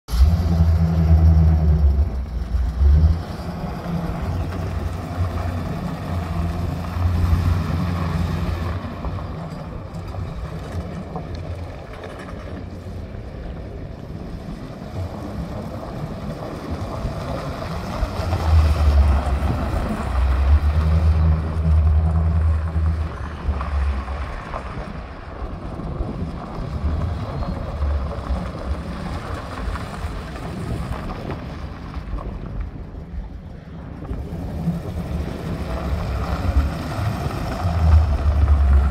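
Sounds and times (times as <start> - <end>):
wind buffeting microphone: 0.1 - 38.9.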